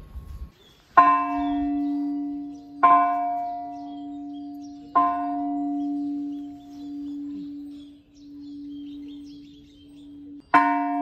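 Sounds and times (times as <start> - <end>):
metal temple bell ringing: 0.4 - 11.0.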